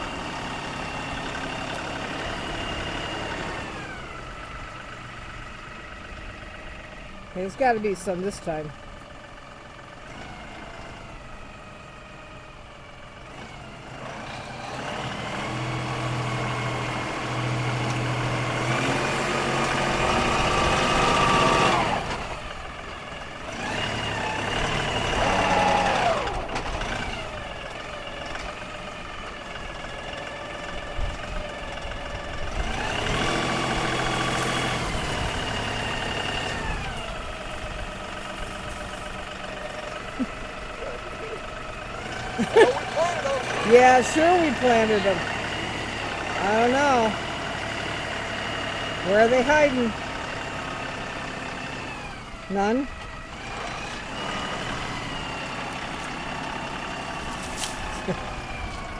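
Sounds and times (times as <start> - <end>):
tractor diesel engine revving: 0.0 - 58.9.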